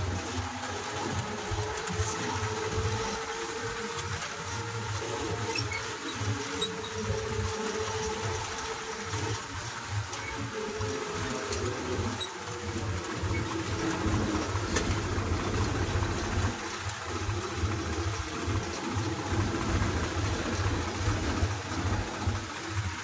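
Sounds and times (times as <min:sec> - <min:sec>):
tractor diesel engine: 0:00.0 - 0:23.0.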